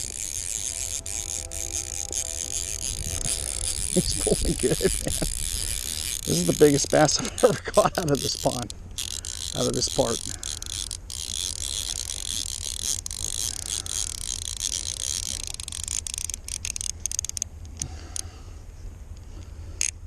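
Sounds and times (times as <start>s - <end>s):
fly reel drag ratcheting: 0.0s - 18.2s.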